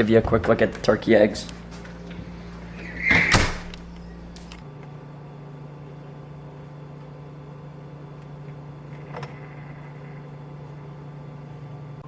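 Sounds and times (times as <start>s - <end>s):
egg incubator humming: 0.0s - 12.0s.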